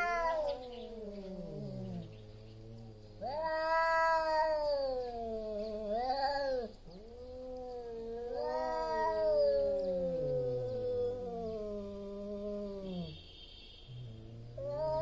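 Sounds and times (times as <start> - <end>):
cats yowling: 0.0 - 13.2, 14.0 - 15.0.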